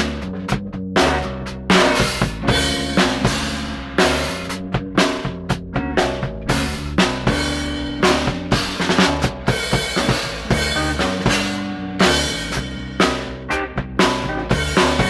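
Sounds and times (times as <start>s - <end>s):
bass and guitar notes: 0.0s - 15.0s
drum kit playing busy beat: 0.0s - 15.0s.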